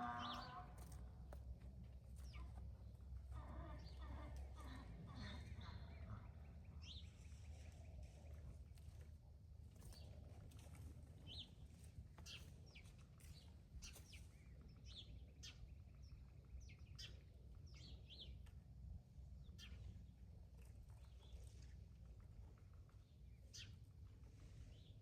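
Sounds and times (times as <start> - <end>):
faint songbirds chirping: 0.0 - 1.2, 1.8 - 25.0.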